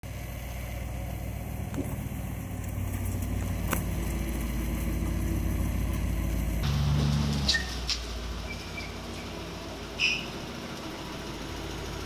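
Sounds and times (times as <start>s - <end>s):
engine idling: 0.1s - 12.0s.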